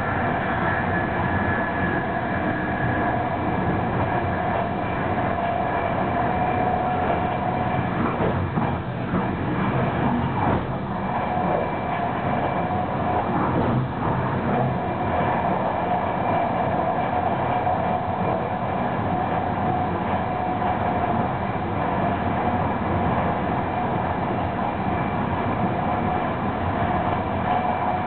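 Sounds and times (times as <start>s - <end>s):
steady whine: 0.0s - 28.0s
train wheels rumbling on rail: 0.0s - 28.0s.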